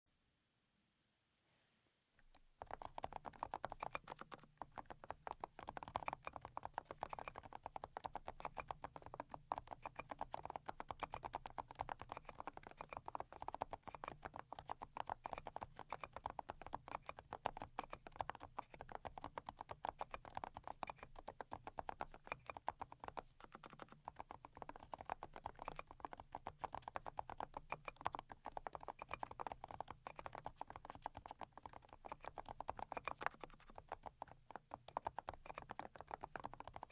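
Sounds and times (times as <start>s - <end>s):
mechanical keyboard typing: 2.3s - 36.9s.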